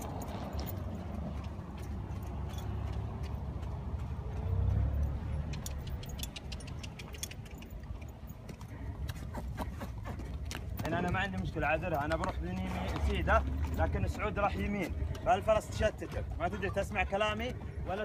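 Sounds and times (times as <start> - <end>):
hooves clopping on stony ground: 0.0 - 18.0.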